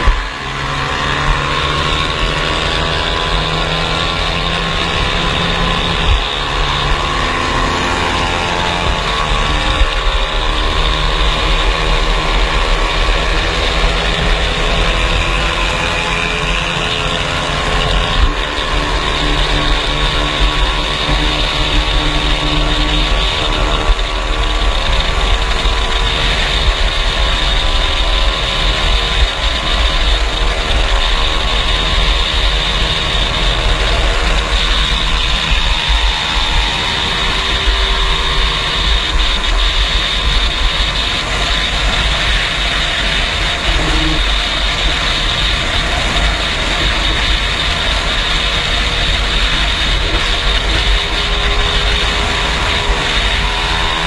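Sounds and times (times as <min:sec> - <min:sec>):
engines rumbling: 0:00.0 - 0:54.0.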